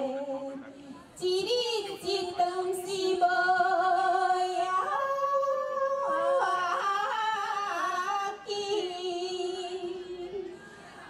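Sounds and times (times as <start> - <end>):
folk song sung in duet: 0.0 - 10.6.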